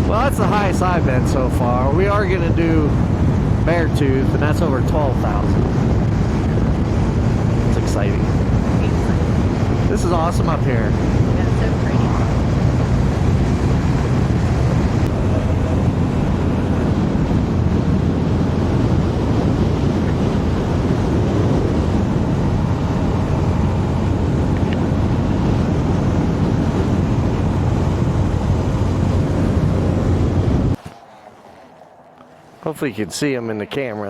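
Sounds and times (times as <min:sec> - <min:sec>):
road noise: 0:00.0 - 0:34.0
wind buffeting microphone: 0:00.0 - 0:34.0
motorcycle engine: 0:05.1 - 0:33.2.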